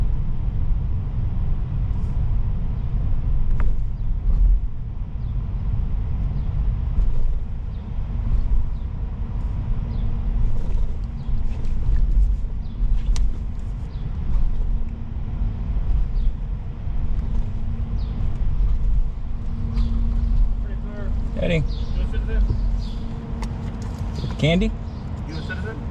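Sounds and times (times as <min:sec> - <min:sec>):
faint steady hum: 0:00.0 - 0:25.9
car engine running: 0:01.3 - 0:25.9.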